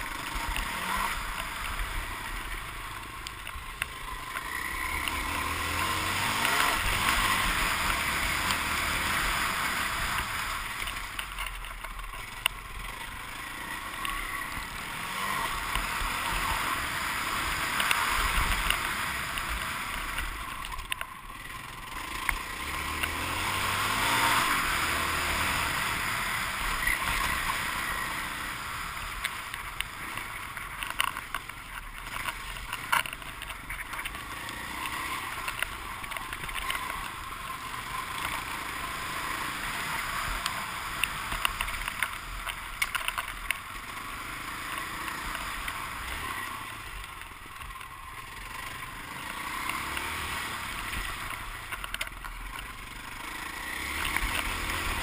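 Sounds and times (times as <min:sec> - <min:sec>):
motocross bike engine revving: 0:00.0 - 0:11.1, 0:12.2 - 0:20.6, 0:21.3 - 0:42.9, 0:43.7 - 0:51.8, 0:52.5 - 0:55.0.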